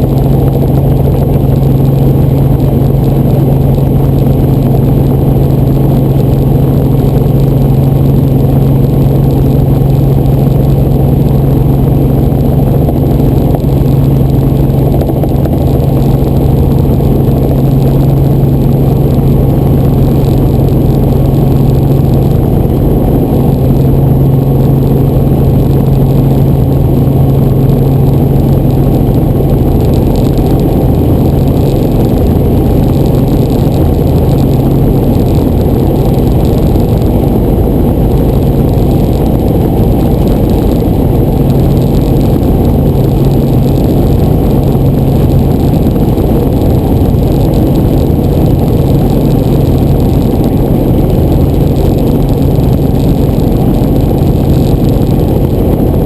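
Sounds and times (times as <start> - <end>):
helicopter engine and rotor: 0.0 - 56.0.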